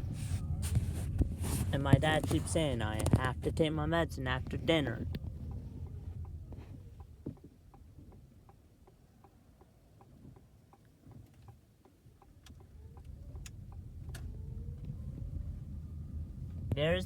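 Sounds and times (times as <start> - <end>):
car moving rumble: 0.0 - 17.0
turn signal ticking: 0.0 - 17.0.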